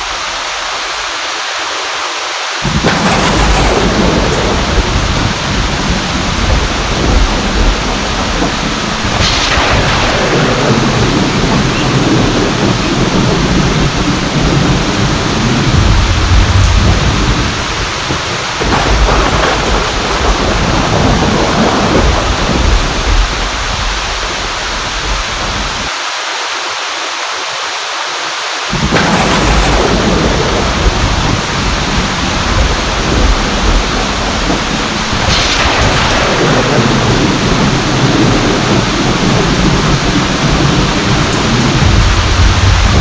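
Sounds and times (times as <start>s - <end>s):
heavy rain: 0.0s - 43.0s
rolling thunder: 2.6s - 25.9s, 28.7s - 43.0s.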